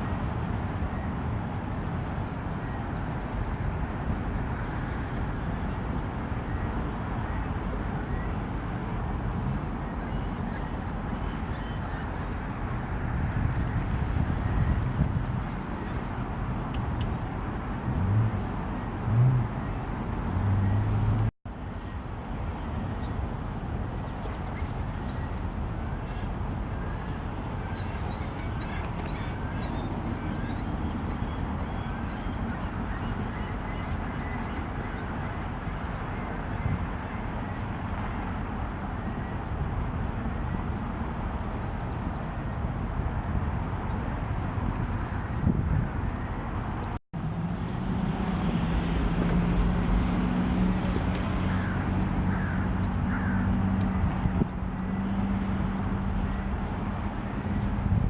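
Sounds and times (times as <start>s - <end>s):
outdoor background rumble: 0.0s - 58.0s.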